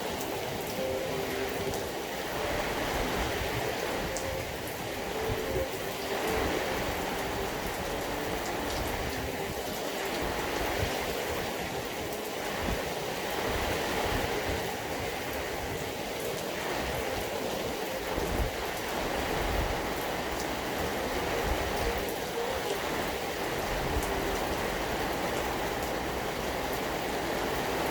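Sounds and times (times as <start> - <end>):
raindrops ticking: 0.0 - 12.9, 14.7 - 27.9
steady rain hiss: 0.0 - 27.9.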